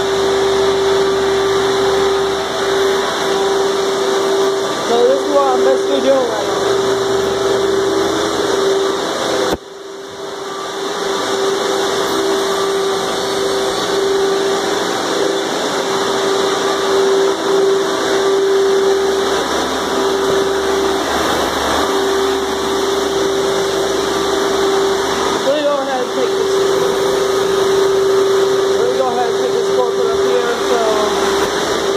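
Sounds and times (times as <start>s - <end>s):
wet vacuum motor whine: 0.0s - 31.9s.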